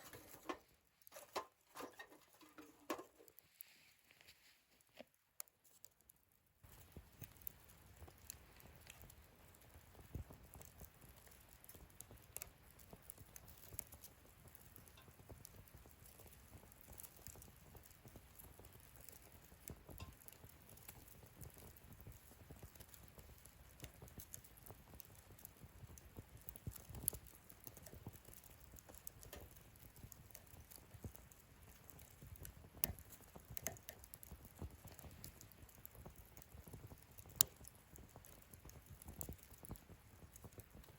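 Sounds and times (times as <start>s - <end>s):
wood fire crackling: 0.0s - 40.9s
sharp pops of fire: 6.6s - 40.9s.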